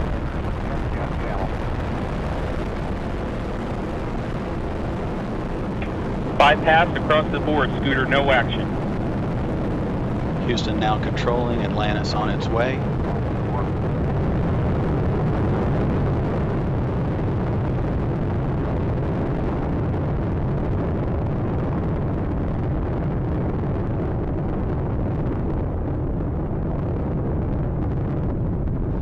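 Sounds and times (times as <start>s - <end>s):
rocket launch roar: 0.0s - 29.0s.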